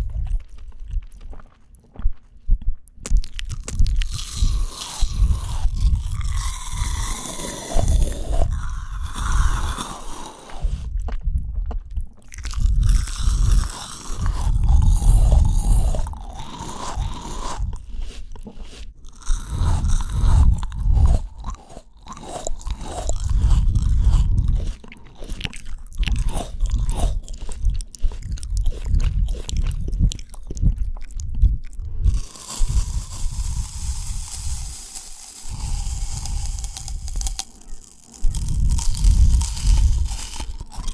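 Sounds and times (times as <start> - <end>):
crunchy chewing of fruit: 0.0 - 40.9.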